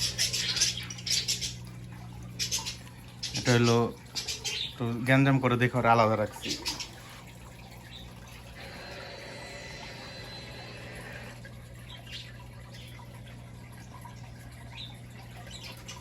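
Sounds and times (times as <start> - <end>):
aquarium water running: 0.0 - 16.0
faint drips: 0.0 - 16.0
water trickling: 0.0 - 16.0.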